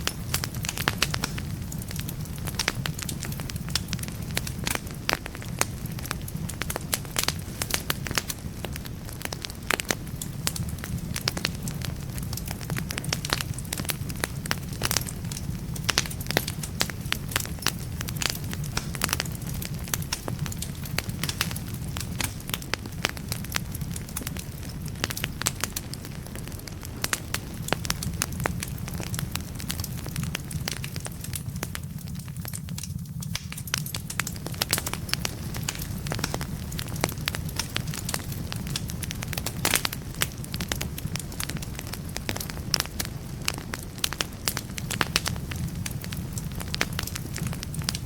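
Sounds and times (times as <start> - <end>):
burning logs crackling and popping: 0.0 - 48.0
fire low rumble: 0.0 - 48.0.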